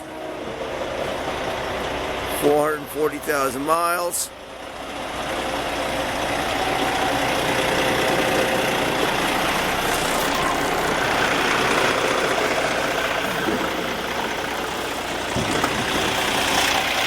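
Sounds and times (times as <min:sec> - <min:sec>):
diesel truck idling: 0:00.0 - 0:17.0.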